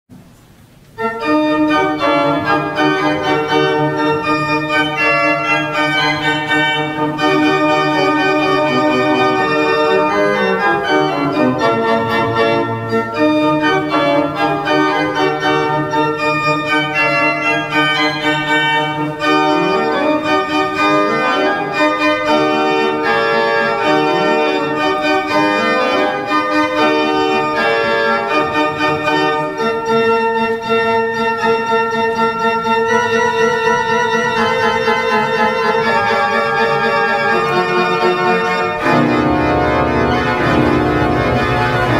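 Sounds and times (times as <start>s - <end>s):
pipe organ playing: 0.6s - 41.9s.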